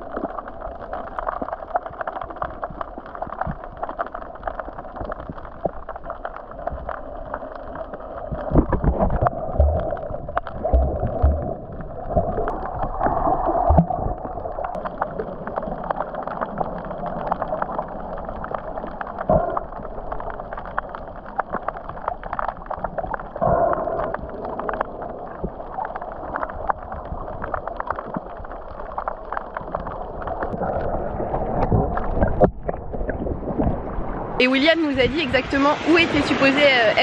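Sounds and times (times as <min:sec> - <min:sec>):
bubbles crackling: 0:00.0 - 0:35.6
underwater rushing and gurgling: 0:00.0 - 0:37.0.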